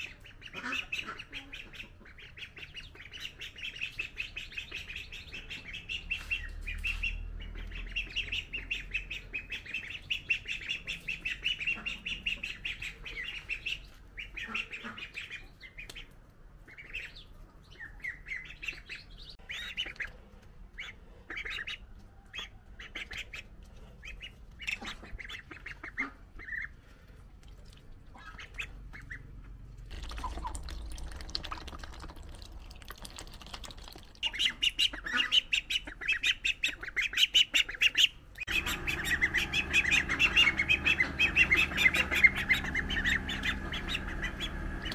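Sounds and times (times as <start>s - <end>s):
ducklings peeping: 0.0s - 44.9s.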